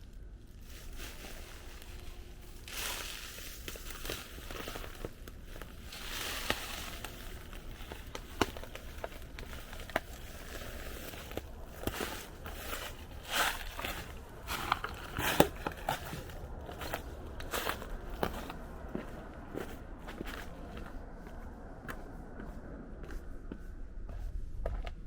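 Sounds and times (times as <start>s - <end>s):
footsteps crunching on path: 0.5s - 25.0s.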